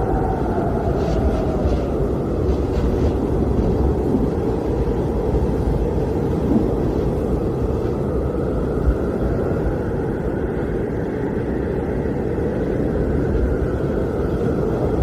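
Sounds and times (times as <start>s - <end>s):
blizzard wind rumbling: 0.0s - 15.0s
faint howling wind: 0.0s - 15.0s.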